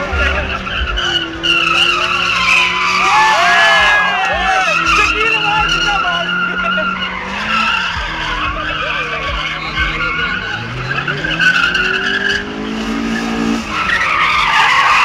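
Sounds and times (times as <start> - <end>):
car tyres squealing: 0.0 - 15.0
engine revving: 0.0 - 15.0.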